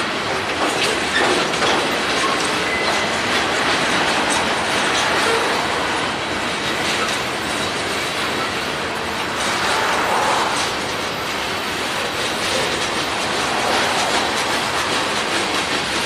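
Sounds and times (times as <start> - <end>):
train cars rolling on steel wheels: 0.0 - 16.0.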